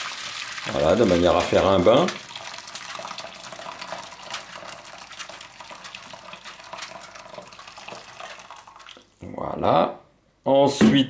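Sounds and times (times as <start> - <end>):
hot water pouring and splashing: 0.0 - 9.2.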